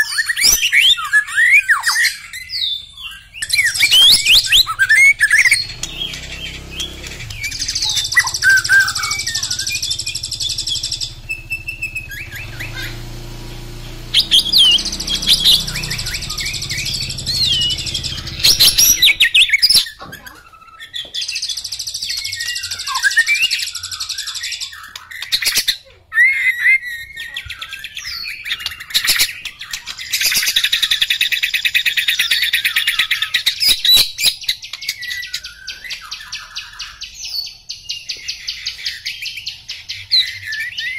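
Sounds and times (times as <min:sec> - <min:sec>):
bird singing whistles and trills: 0:00.0 - 0:40.9.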